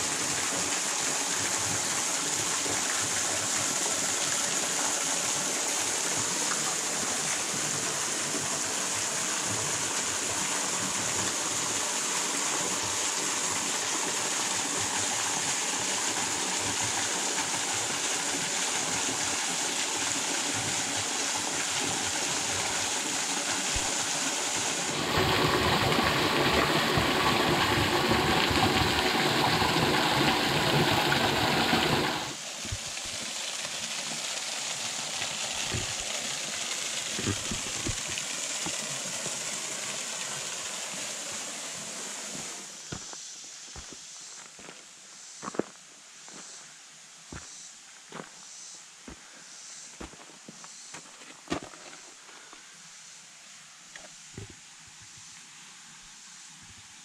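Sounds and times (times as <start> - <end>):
waterfall and creek rushing: 0.0 - 57.0.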